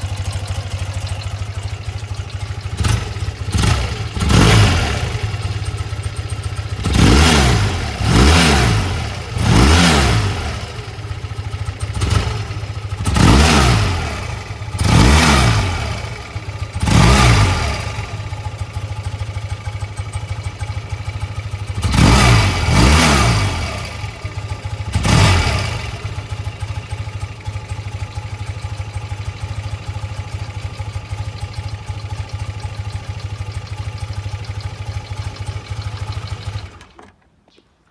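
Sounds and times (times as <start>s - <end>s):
motorcycle engine idling and revving: 0.0s - 37.2s.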